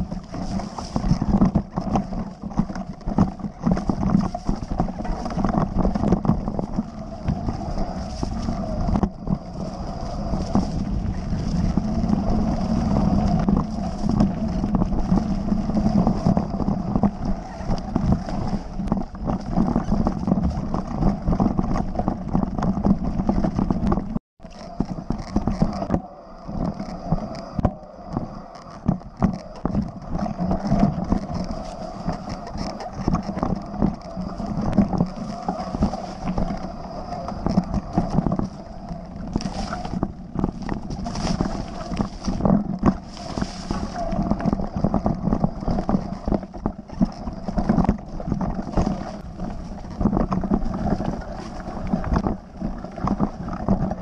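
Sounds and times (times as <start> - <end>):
bike rolling and rattling: 0.0 - 54.0
wind on microphone: 0.0 - 54.0.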